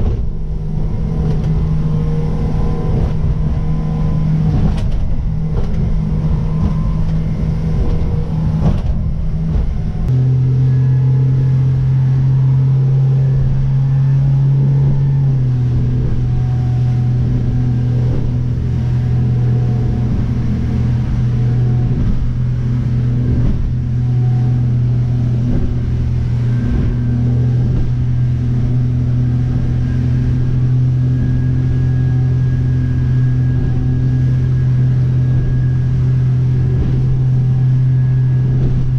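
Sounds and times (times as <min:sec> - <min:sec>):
motorboat engine running: 0:00.0 - 0:38.9
rush of wind and water: 0:00.0 - 0:38.9.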